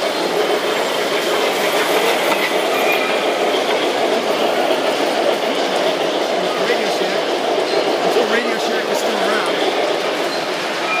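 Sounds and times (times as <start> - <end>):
model train wheels rattling on track: 0.0 - 11.0.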